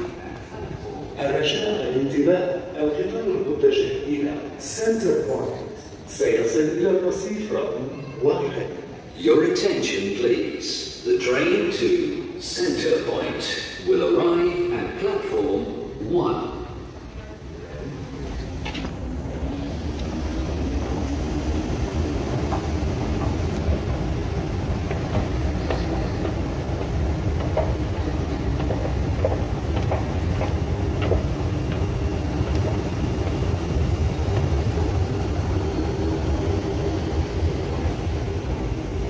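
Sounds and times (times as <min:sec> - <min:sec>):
metro station rumble and hum: 0:00.0 - 0:39.0.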